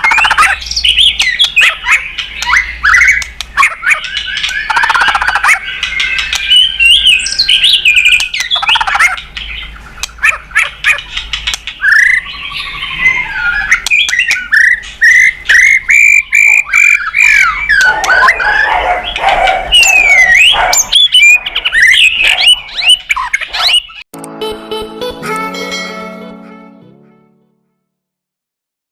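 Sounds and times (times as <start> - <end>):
bird singing: 0.0 - 24.0.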